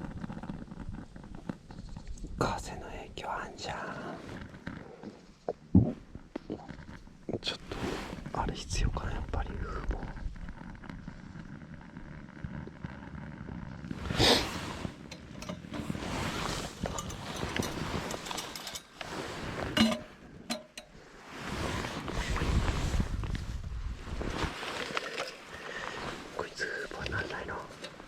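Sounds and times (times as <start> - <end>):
wind rumbling on microphone: 0.0 - 27.8.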